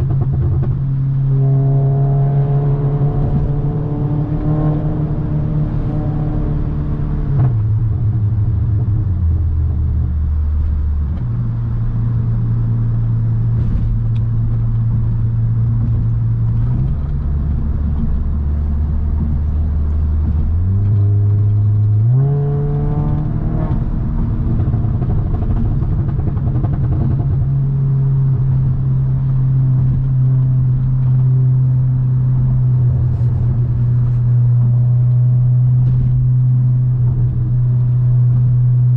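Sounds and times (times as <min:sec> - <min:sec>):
car engine and exhaust driving: 0:00.0 - 0:38.9.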